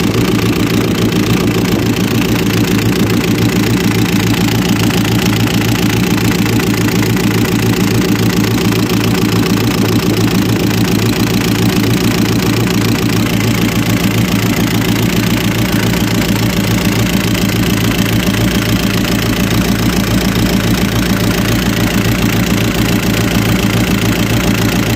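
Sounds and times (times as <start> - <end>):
diesel truck engine idling: 0.0 - 24.9.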